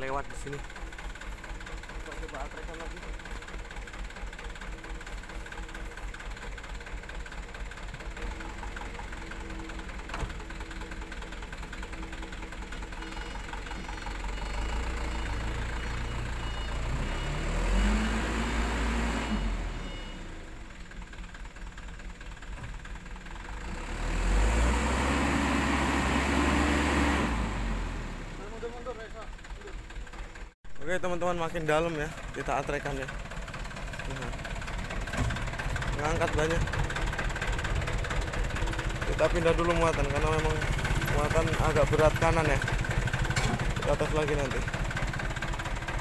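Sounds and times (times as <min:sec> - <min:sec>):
diesel truck engine idling and revving: 0:00.0 - 0:46.0.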